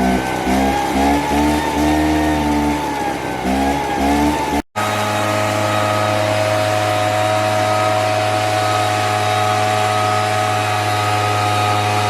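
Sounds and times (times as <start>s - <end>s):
leaf blower engine revving: 0.0s - 12.0s.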